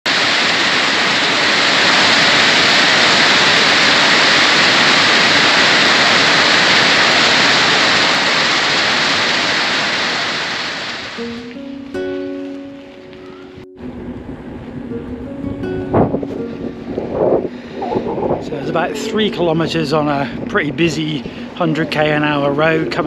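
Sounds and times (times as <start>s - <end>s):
falling water rushing: 0.1s - 23.0s.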